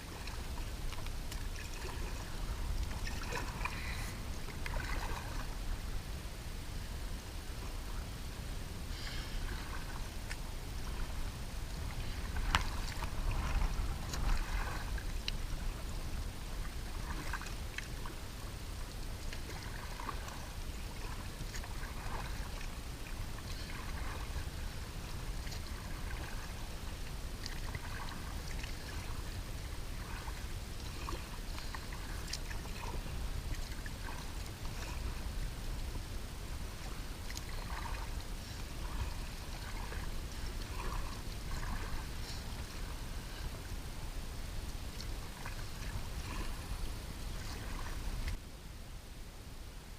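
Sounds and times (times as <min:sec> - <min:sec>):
paddle splashing in water: 0:00.0 - 0:05.8, 0:08.8 - 0:48.4
low steady rumble: 0:00.0 - 0:49.9.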